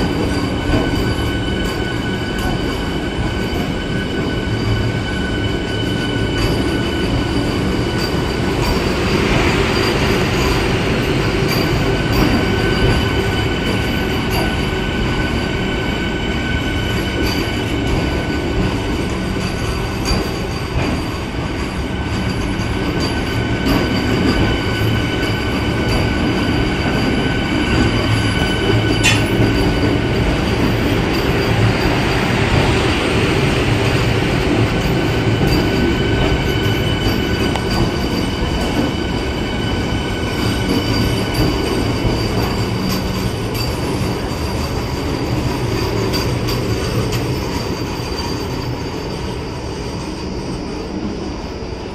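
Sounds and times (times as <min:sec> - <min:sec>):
high-pitched train whine: 0:00.0 - 0:51.9
train wheels rumbling on rails: 0:00.0 - 0:51.9.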